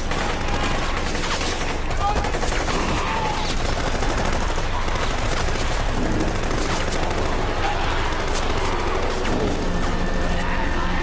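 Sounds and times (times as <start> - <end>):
automatic gunfire: 0.0 - 10.2.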